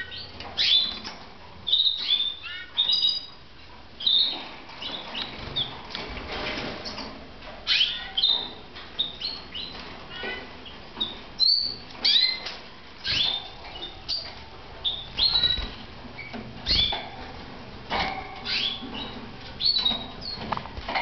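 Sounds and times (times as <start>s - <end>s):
canaries chirping: 0.0s - 21.0s.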